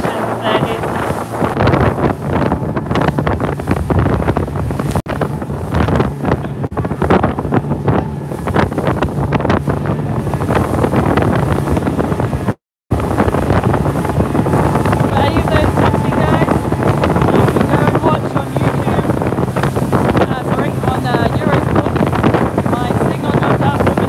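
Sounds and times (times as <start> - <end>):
boat motor drone: 0.0 - 24.0
water slapping against hull: 0.0 - 24.0
wind buffeting microphone: 0.0 - 24.0.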